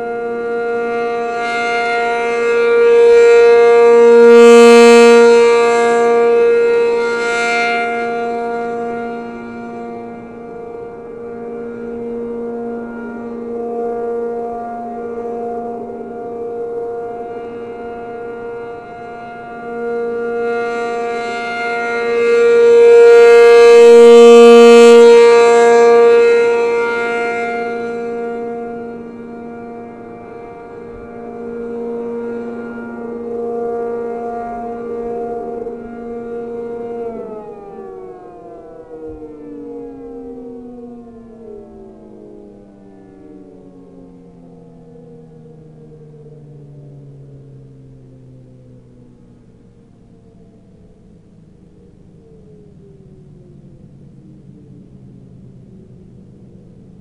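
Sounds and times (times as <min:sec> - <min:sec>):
two-tone siren: 0:00.0 - 0:57.0.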